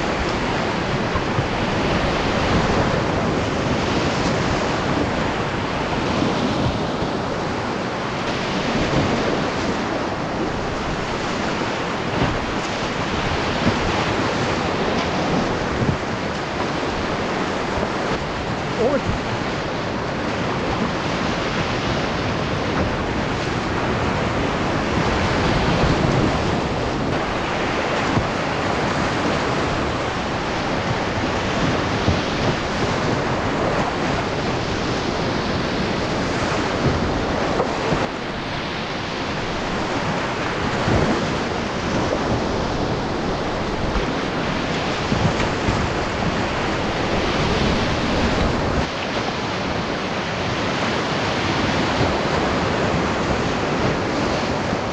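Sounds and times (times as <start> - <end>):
whitewater rapids rushing: 0.0 - 54.9.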